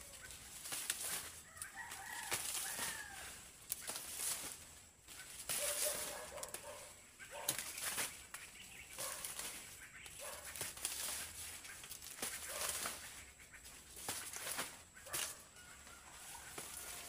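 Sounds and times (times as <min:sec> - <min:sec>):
stalks snapping: 0:00.0 - 0:04.6, 0:05.3 - 0:13.2, 0:13.9 - 0:15.5, 0:16.4 - 0:17.0
dry maize leaves rustling: 0:00.0 - 0:17.0
hens calling: 0:00.0 - 0:17.0.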